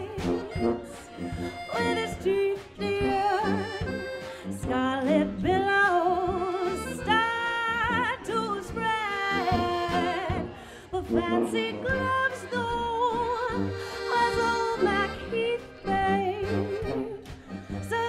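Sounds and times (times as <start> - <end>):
accordion: 0.0 - 18.0
tuba: 0.0 - 18.0
woman singing with vibrato: 0.0 - 18.0.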